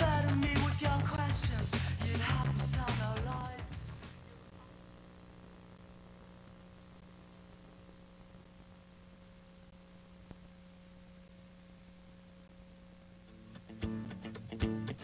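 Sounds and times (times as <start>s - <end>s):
faint steady hum with hiss: 0.0s - 15.0s.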